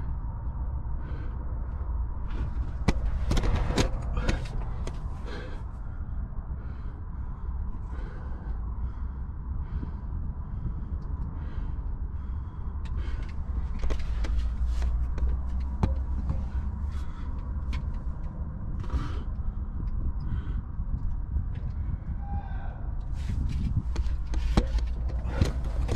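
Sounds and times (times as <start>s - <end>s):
steady low rumble: 0.0s - 25.9s.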